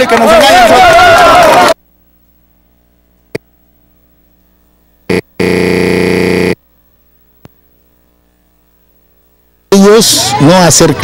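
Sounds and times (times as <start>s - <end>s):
steady electronic buzz: 1.8s - 11.0s.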